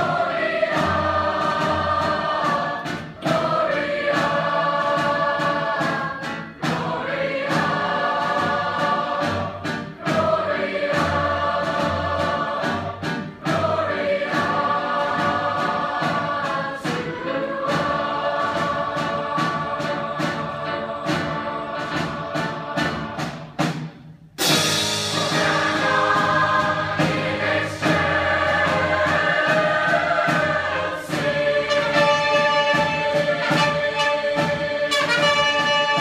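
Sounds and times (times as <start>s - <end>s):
choir singing with music: 0.0s - 36.0s.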